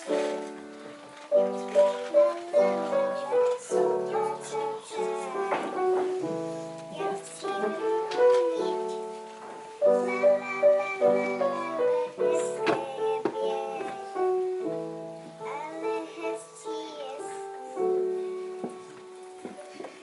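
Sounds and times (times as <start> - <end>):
upright piano playing chords: 0.0 - 20.0
young children singing: 0.0 - 20.0.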